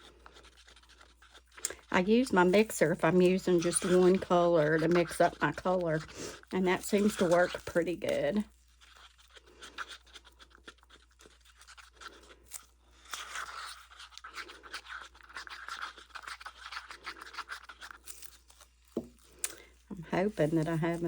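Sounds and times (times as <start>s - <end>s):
scraping in a plastic cup: 0.0s - 10.3s, 13.2s - 21.0s.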